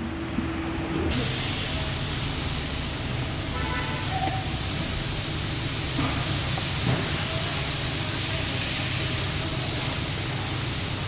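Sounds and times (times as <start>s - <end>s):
steady hiss: 1.1s - 11.0s.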